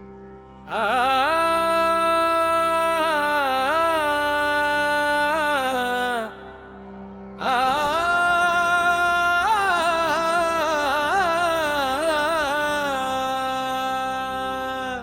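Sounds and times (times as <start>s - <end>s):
solo voice singing: 0.7s - 6.6s, 7.4s - 15.0s.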